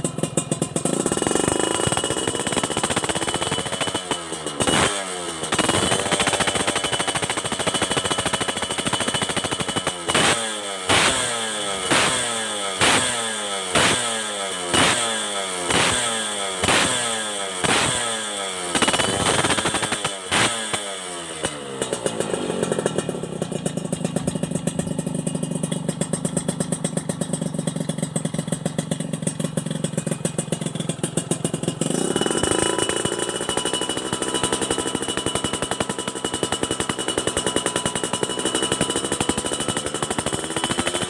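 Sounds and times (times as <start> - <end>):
motorcycle engine idling: 0.0 - 41.0
motorcycle engine revving: 0.0 - 41.0.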